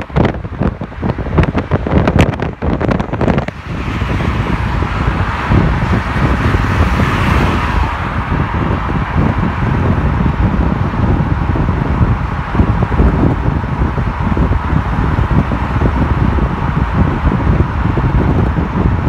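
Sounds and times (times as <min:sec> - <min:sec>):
car tyre and engine rumble: 0:00.0 - 0:19.0.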